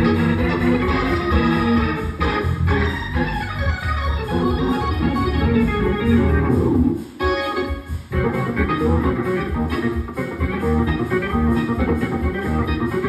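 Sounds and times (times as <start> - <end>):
organ chords and runs: 0.0 - 13.0.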